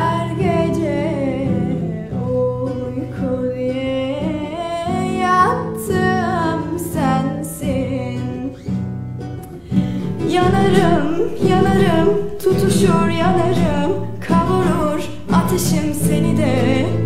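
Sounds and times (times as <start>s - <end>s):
woman singing: 0.0s - 8.9s, 9.5s - 17.0s
plucked acoustic guitar: 0.0s - 17.0s.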